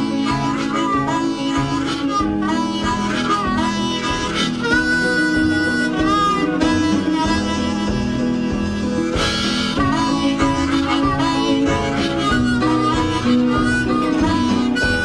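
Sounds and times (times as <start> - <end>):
lead instrument bending held notes: 0.0 - 15.0
steady musical accompaniment: 0.0 - 15.0.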